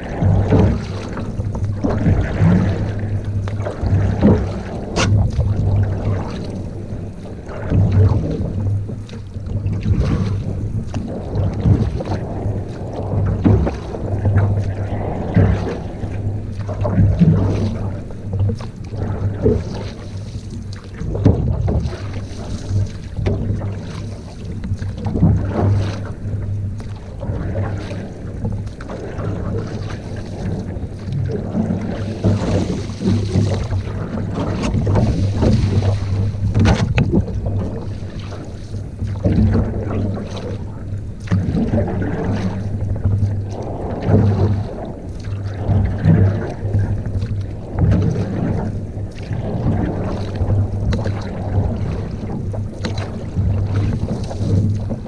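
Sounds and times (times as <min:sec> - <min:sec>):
water noise: 0:00.0 - 0:55.0
wind on microphone: 0:00.0 - 0:55.0.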